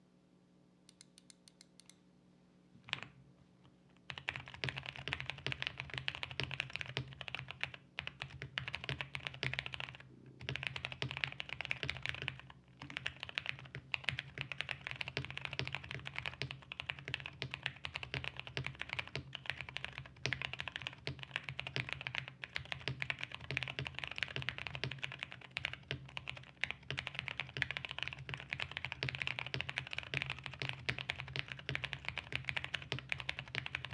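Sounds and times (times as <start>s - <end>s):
mechanical keyboard typing: 4.1s - 33.9s.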